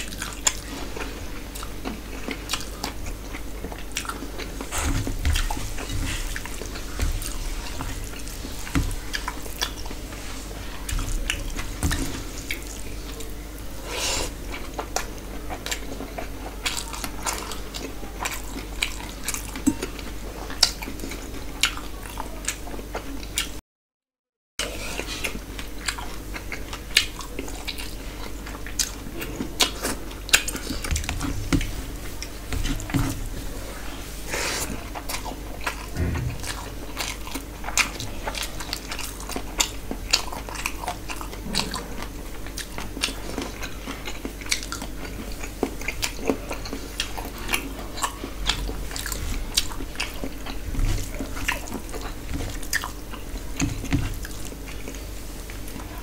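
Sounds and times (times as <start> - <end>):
low steady hum: 0.0 - 23.4, 24.6 - 56.0
man chewing and smacking: 0.0 - 23.6, 24.6 - 34.0, 34.6 - 56.0.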